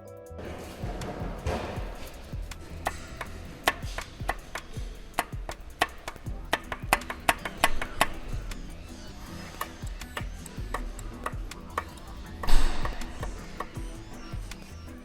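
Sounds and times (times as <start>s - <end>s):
background music: 0.0s - 15.0s
sharp clicks or taps: 1.0s - 8.6s, 9.5s - 14.7s.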